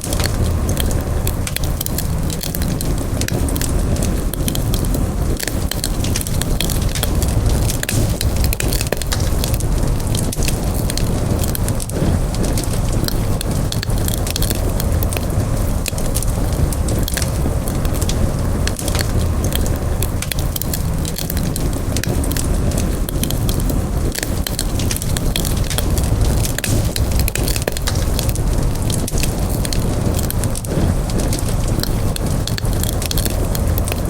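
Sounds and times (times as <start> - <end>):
burning wood crackling: 0.0 - 34.0
campfire rumble: 0.0 - 34.0.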